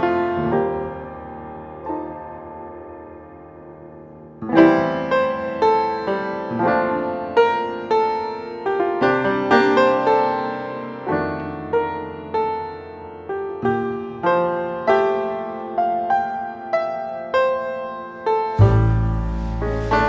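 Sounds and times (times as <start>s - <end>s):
solo piano melody: 0.0s - 20.0s.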